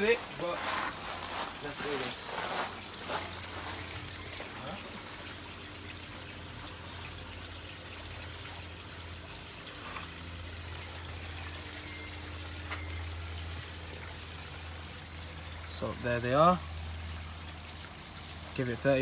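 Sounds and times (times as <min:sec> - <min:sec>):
low steady hum: 0:00.0 - 0:19.0
water trickling: 0:00.0 - 0:19.0.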